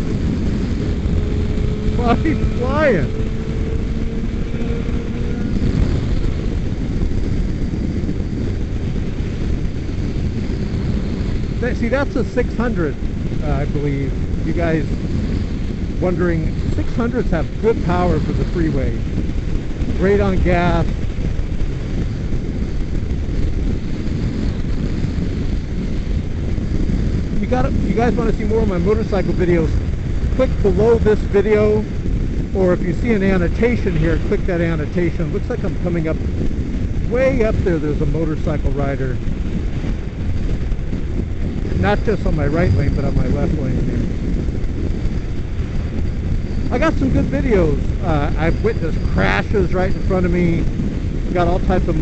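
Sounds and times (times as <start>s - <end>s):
motorcycle engine drone: 0.0s - 52.0s
road and traffic noise: 0.0s - 52.0s
wind rush: 0.0s - 52.0s.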